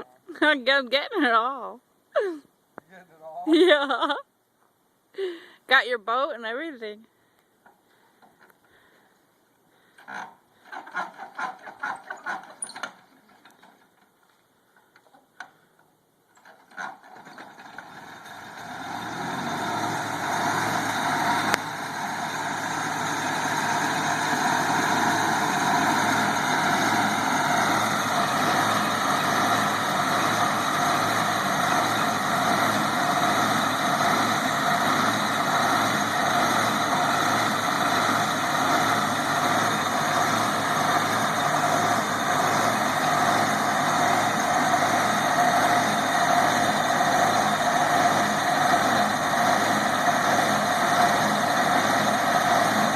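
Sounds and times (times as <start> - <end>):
engine starting and running: 9.8 - 14.1, 14.8 - 52.9.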